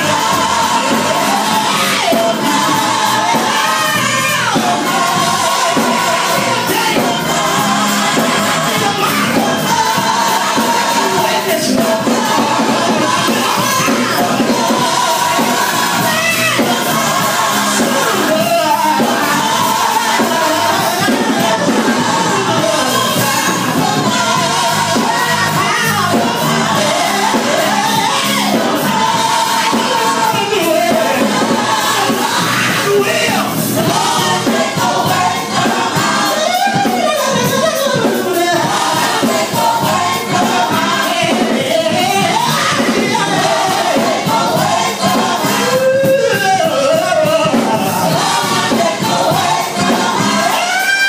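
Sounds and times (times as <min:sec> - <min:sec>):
congregation singing: 0:00.0 - 0:51.0
gospel band playing: 0:00.0 - 0:51.0.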